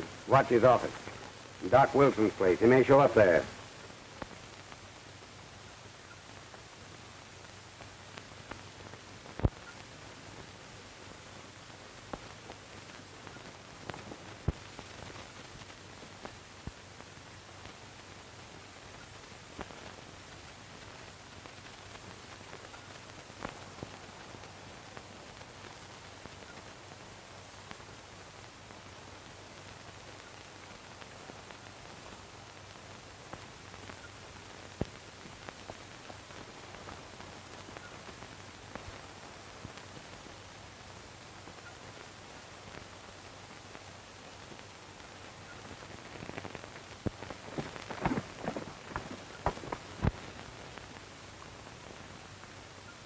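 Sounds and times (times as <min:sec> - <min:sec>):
crackles and pops: 0:00.0 - 0:53.0
film soundtrack hiss: 0:00.0 - 0:53.0.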